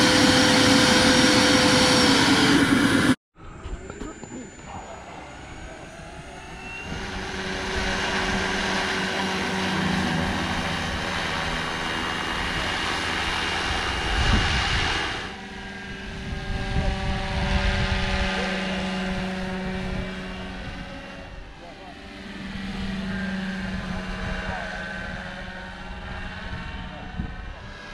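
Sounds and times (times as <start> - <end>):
model helicopter rotors whining: 0.0 - 27.9
loud low rush: 4.6 - 27.7.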